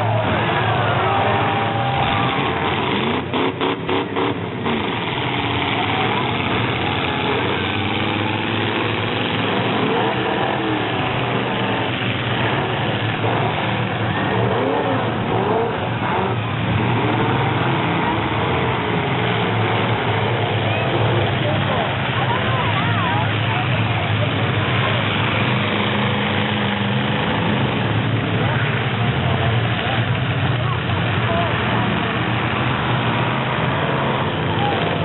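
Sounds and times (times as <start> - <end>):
voices: 0.0 - 3.4, 5.2 - 35.0
truck engines revving: 0.0 - 35.0.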